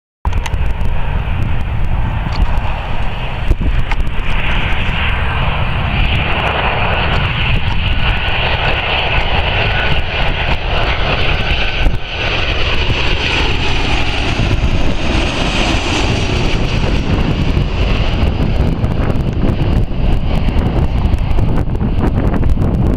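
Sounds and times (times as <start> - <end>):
jet engines rumble and hiss: 0.3 - 22.9.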